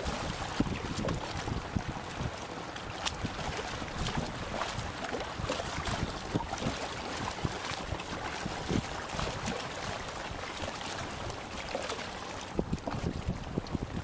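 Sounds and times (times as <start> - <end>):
seawater splashing on concrete blocks: 0.0 - 13.1
wind noise on microphone: 0.0 - 14.0.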